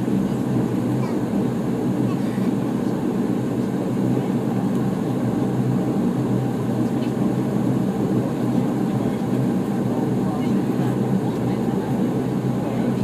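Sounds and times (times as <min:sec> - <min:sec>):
turboprop engines droning in cabin: 0:00.0 - 0:13.0.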